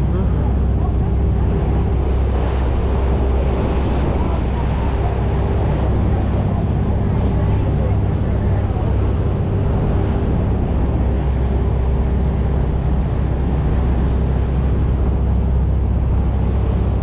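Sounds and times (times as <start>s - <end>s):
boat engines droning: 0.0s - 17.0s
constant rushing noise: 0.0s - 17.0s.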